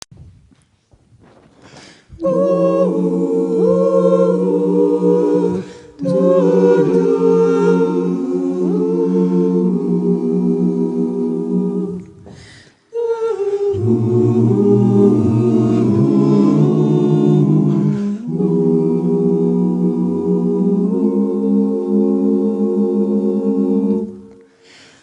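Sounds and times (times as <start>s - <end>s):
a cappella vocal harmony: 1.7s - 25.0s.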